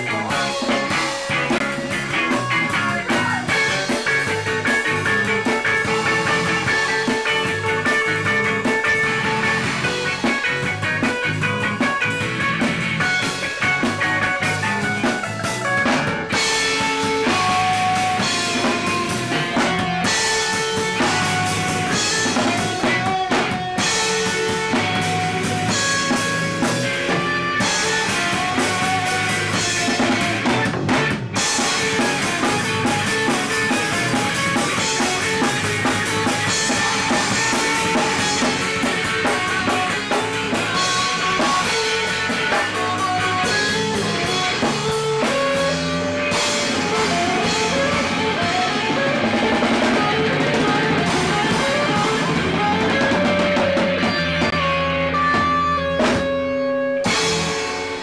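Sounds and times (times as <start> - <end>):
drum kit with cymbals: 0.0 - 58.0
electric guitars playing: 0.0 - 58.0.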